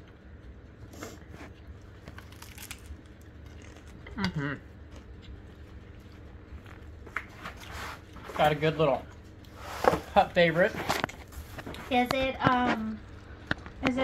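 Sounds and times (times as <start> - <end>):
faint chewing of pizza crust: 0.0 - 13.8.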